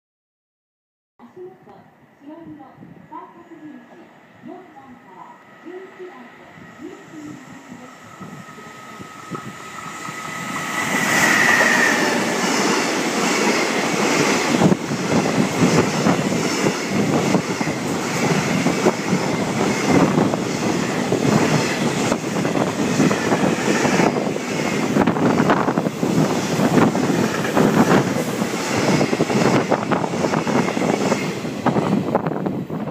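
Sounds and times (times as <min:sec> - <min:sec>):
electric locomotive passing: 0:03.1 - 0:32.9.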